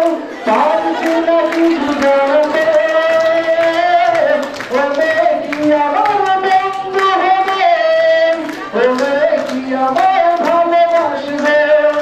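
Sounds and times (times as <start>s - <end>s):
man singing over pa: 0.0s - 12.0s.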